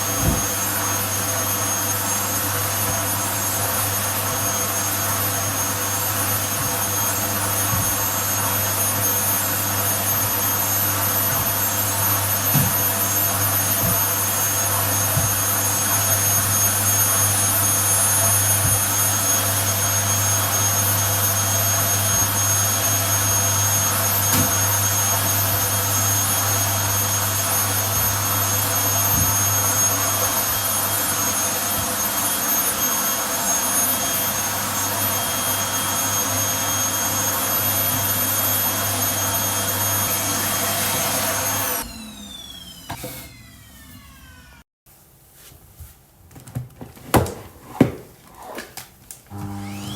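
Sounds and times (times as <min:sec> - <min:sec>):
vacuum cleaner running: 0:00.0 - 0:44.7, 0:47.1 - 0:49.9.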